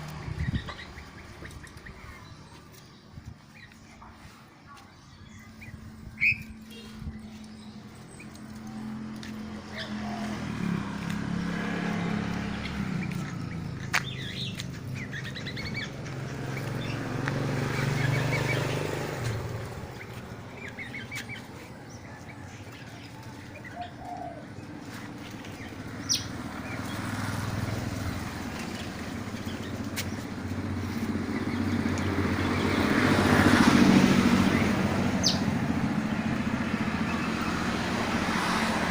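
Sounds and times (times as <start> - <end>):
passing vehicles hum: 0.0 - 38.9
songbirds chirping: 0.0 - 38.9.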